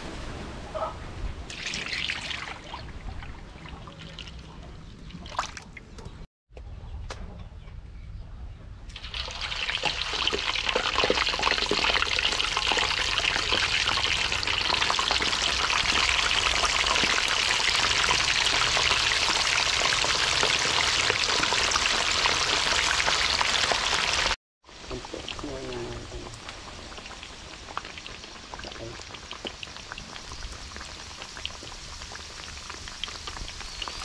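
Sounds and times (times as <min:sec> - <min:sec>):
meat deep-frying in hot oil: 0:01.5 - 0:05.6, 0:08.9 - 0:34.0.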